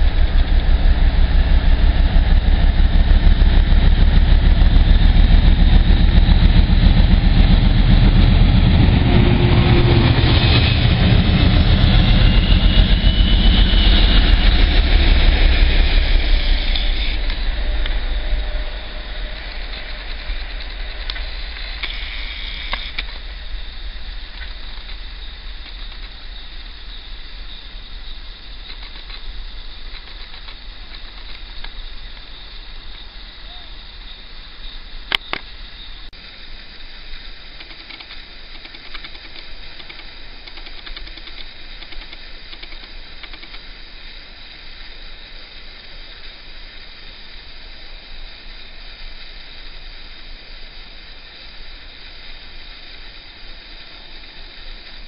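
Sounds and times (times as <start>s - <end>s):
diesel locomotive engine: 0.0s - 55.0s.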